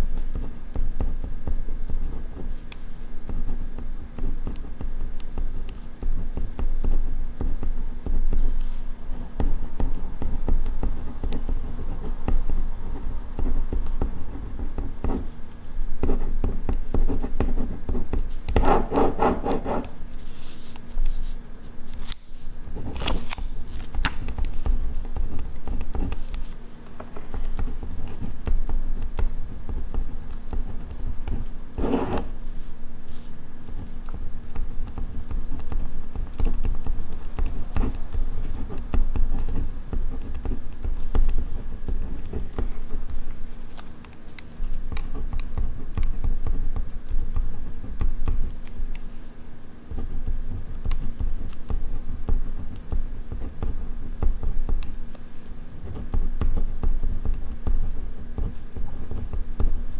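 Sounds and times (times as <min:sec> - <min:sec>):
ballpoint pen writing on paper: 0:00.0 - 0:21.4, 0:24.0 - 0:32.4, 0:33.2 - 0:49.2, 0:49.8 - 0:59.9.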